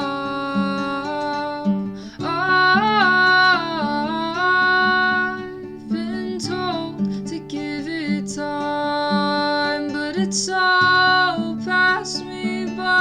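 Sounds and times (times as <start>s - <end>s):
acoustic guitar strummed and plucked: 0.0s - 13.0s
woman singing: 0.0s - 13.0s.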